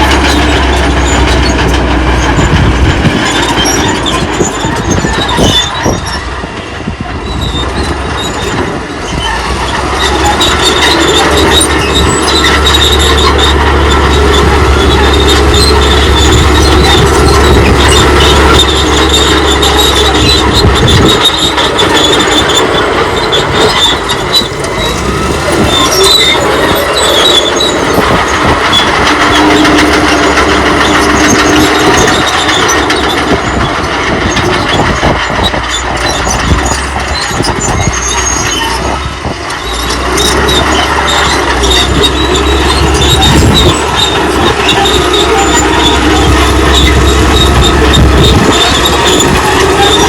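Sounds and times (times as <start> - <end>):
bulldozer engine under load: 0.0 - 50.0
steel tracks squealing and clanking: 0.0 - 50.0.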